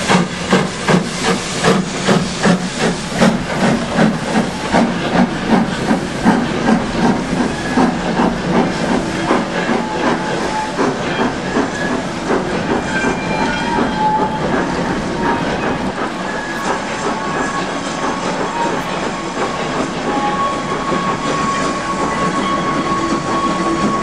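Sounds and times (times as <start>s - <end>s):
carriages rattling over rails: 0.0s - 24.0s
steam locomotive chuffing: 0.0s - 24.0s.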